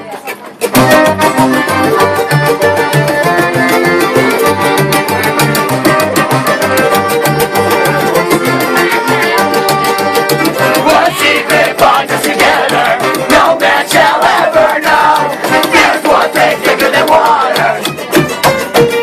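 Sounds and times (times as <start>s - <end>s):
guitar playing: 0.4s - 19.0s
accordion playing: 0.6s - 19.0s
pulsing bass line: 0.7s - 19.0s.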